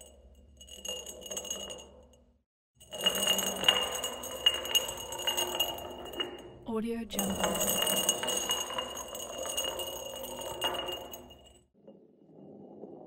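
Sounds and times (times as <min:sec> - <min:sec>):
glass bottle rolling: 0:00.0 - 0:02.2, 0:02.8 - 0:06.6, 0:07.2 - 0:13.0.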